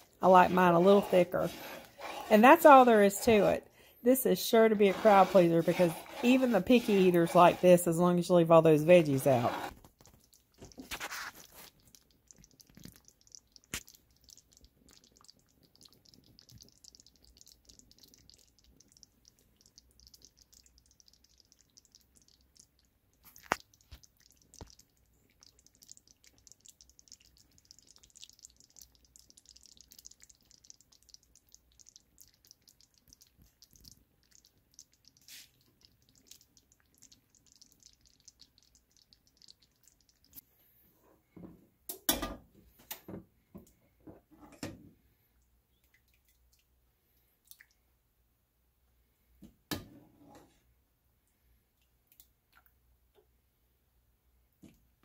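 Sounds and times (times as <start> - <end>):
broth simmering and bubbling: 0.0 - 53.6.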